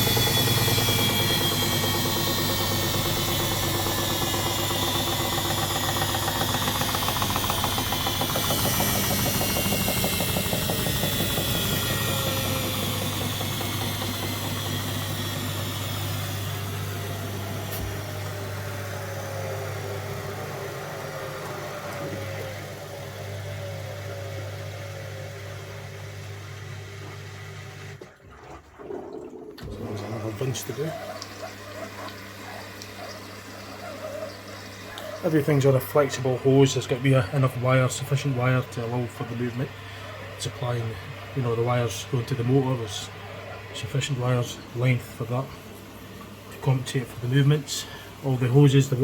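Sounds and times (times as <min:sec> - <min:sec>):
washing machine drum whine: 0:00.0 - 0:49.0.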